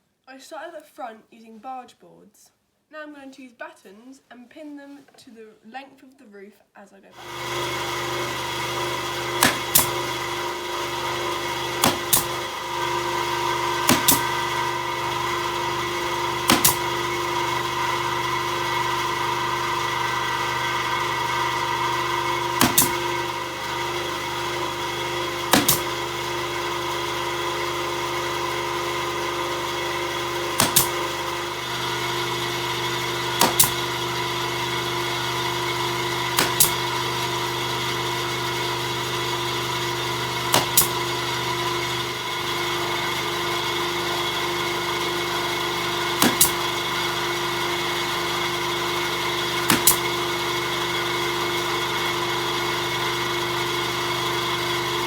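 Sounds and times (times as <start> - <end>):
machine hum: 7.2 - 55.0
nail gun firing: 7.2 - 55.0.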